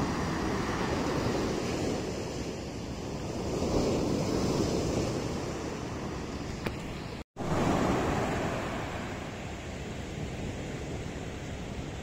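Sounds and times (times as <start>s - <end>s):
waves breaking on a beach: 0.0s - 12.0s
wind buffeting the microphone: 0.0s - 12.0s.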